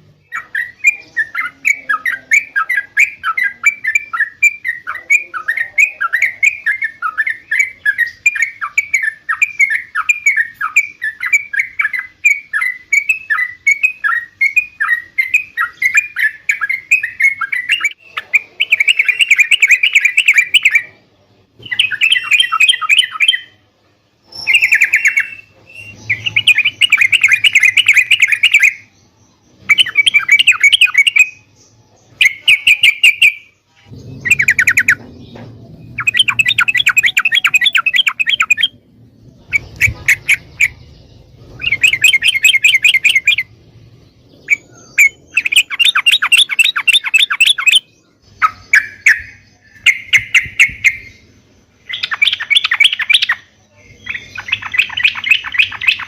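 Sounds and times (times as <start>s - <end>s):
bird chirping and chattering: 0.0s - 23.6s, 24.2s - 56.0s.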